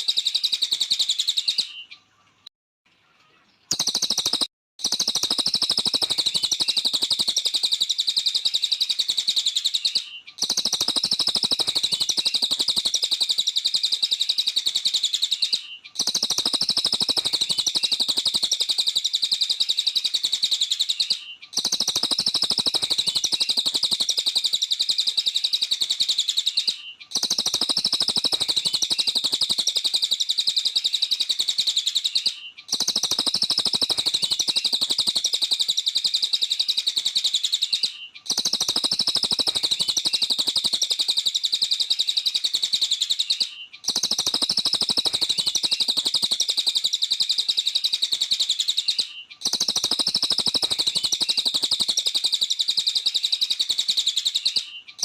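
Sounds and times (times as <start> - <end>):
songbird chattering song: 0.0 - 55.0.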